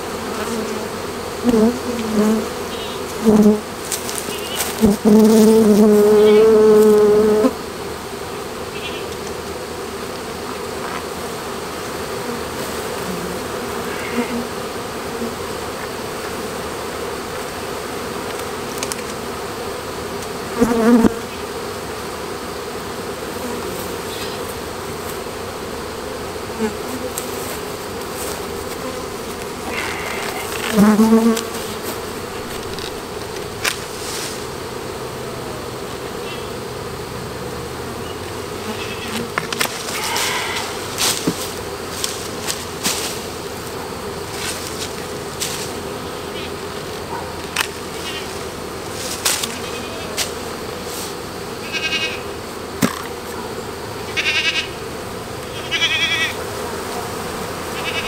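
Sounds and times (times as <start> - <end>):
bee swarm buzzing: 0.0 - 58.0
single bee buzzing close: 0.0 - 58.0.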